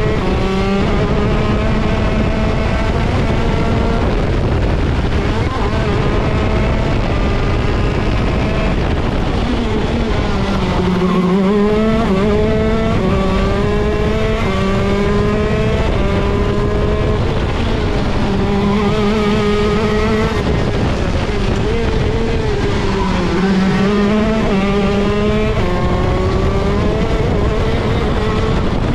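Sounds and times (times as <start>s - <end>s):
kart engine revving hard: 0.0s - 28.9s.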